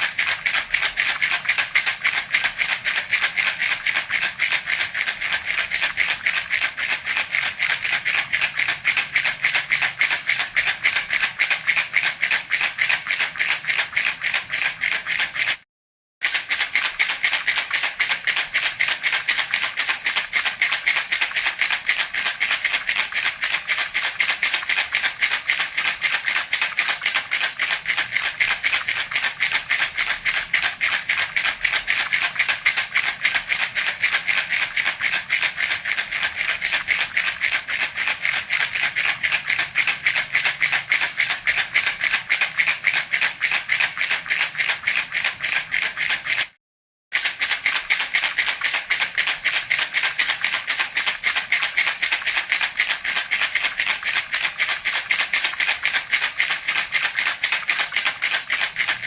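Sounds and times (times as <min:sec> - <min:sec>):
toy rattle shaking: 0:00.0 - 0:15.6, 0:16.2 - 0:59.0.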